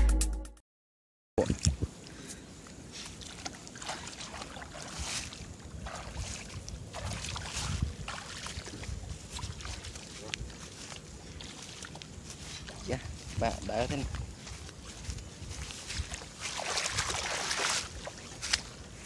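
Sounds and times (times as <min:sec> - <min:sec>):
wind rumbling on microphone: 0:01.4 - 0:02.0, 0:04.2 - 0:19.0
feet wading through shallow water: 0:02.9 - 0:19.0.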